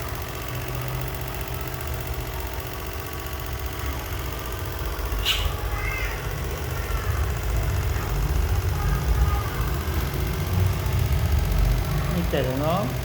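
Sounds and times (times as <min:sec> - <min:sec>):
engine rumble: 0:00.0 - 0:13.0.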